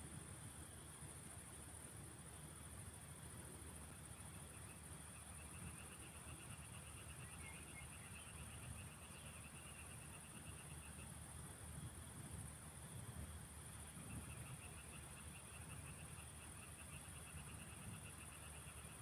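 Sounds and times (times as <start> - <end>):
insect chorus: 2.6 - 19.0.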